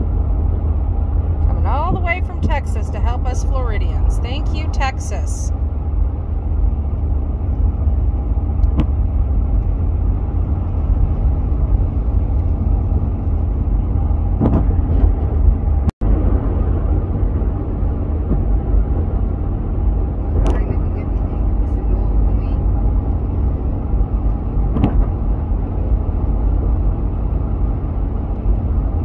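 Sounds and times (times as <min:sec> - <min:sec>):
car driving at highway speed: 0:00.0 - 0:29.0.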